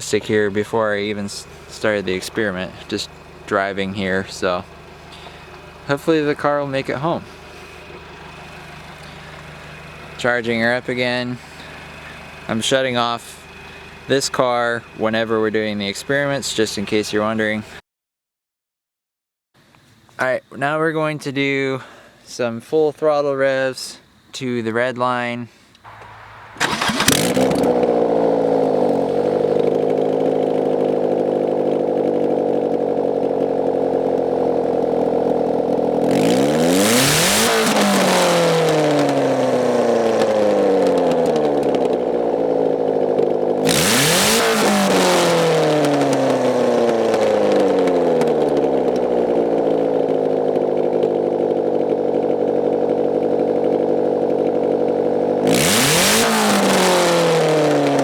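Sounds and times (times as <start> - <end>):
car engine revving hard: 0.0 - 15.1, 25.9 - 58.0.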